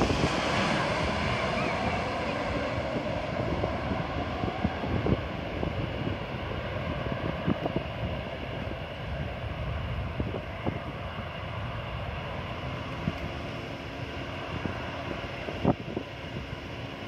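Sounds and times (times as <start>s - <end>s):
distant jet engines rumbling: 0.0s - 17.0s
wind buffeting microphone: 0.0s - 17.0s.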